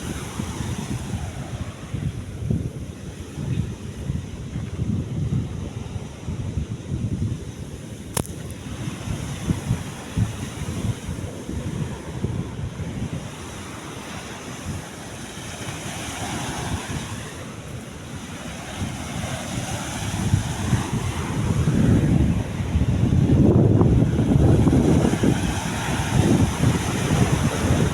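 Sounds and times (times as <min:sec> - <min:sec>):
sea waves washing: 0:00.0 - 0:27.9
wind buffeting microphone: 0:00.0 - 0:27.9.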